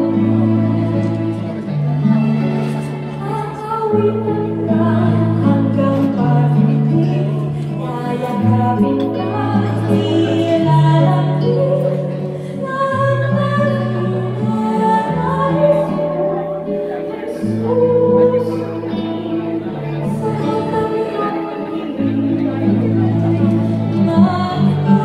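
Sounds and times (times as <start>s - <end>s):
woman singing a ballad: 0.0s - 1.9s, 3.1s - 25.0s.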